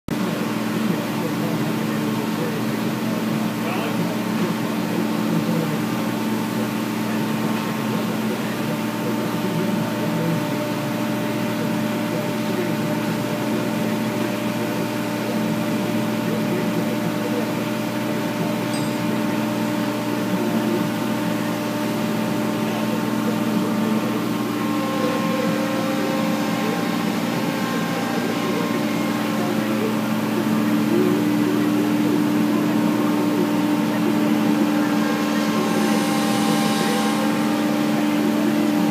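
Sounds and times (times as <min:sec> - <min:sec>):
skid steer engine running: 0:00.1 - 0:38.9.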